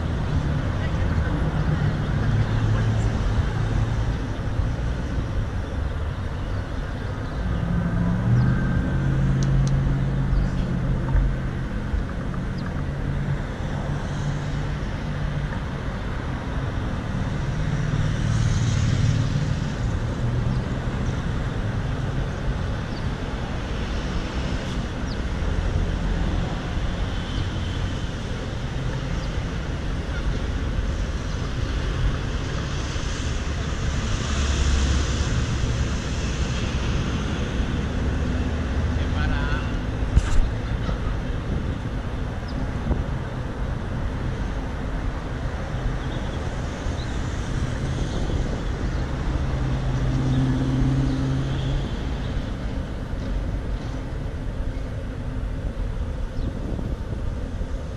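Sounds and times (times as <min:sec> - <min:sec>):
cars passing: 0:00.0 - 0:57.9
traffic hum: 0:00.0 - 0:57.9.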